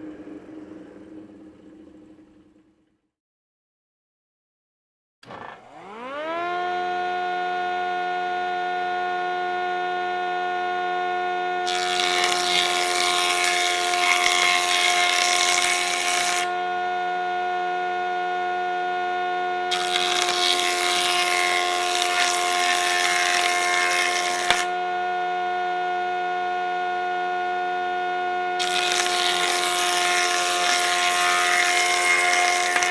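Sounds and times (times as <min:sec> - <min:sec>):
jointer motor whine: 0:00.0 - 0:02.7, 0:05.2 - 0:32.9
board cutting noise: 0:05.2 - 0:32.9.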